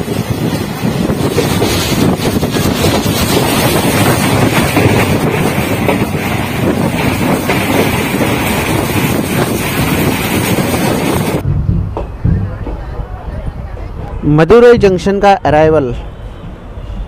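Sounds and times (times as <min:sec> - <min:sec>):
train wheels rumbling on track: 0:00.0 - 0:17.0
wind buffeting microphone: 0:00.0 - 0:17.0.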